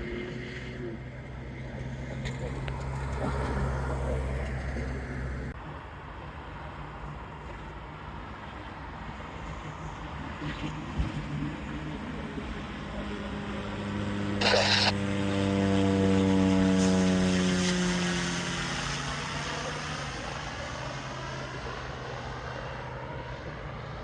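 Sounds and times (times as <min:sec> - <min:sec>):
propeller airplane engine drone: 0:00.0 - 0:24.0.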